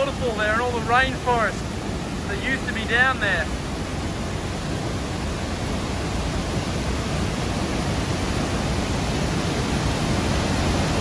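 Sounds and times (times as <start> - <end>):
waterfall crashing onto rocks: 0.0 - 11.0.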